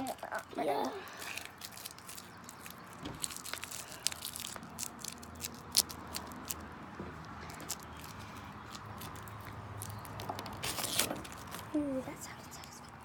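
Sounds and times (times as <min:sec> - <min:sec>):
plastic film crackling: 0:01.0 - 0:12.0.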